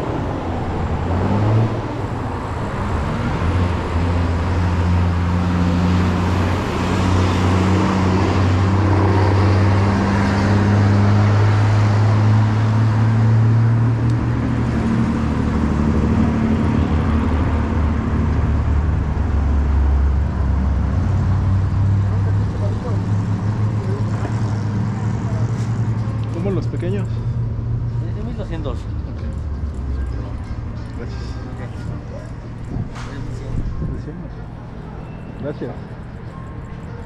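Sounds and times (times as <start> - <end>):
street traffic noise: 0.0 - 37.0
vehicle engine humming: 0.0 - 37.0.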